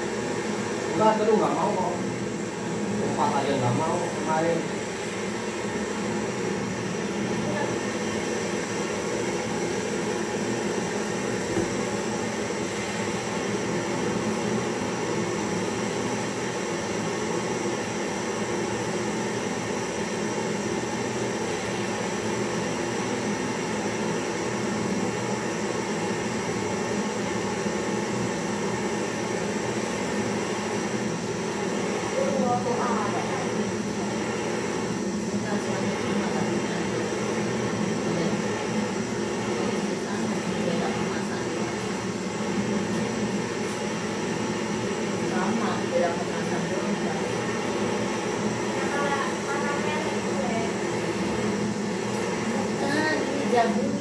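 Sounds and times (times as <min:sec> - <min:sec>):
gas torch flame hissing: 0:00.0 - 0:54.0.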